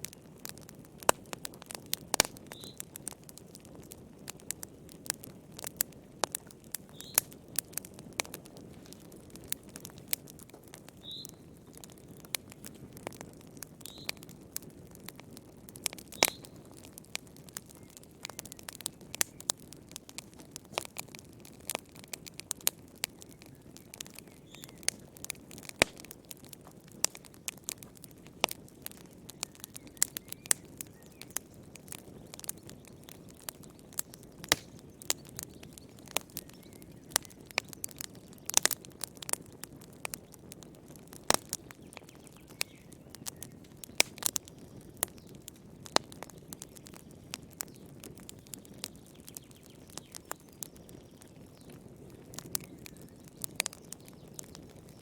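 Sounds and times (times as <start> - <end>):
low rumble of burning: 0.0 - 55.0
wood fire crackling and popping: 0.0 - 55.0.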